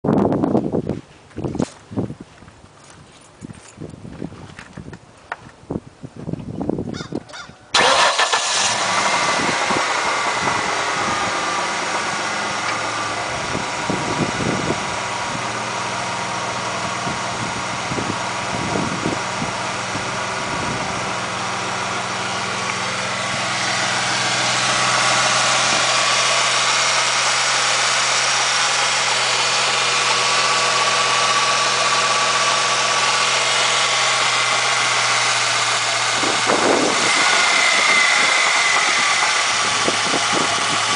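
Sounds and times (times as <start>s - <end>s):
car engine starting and idling: 7.7s - 40.9s.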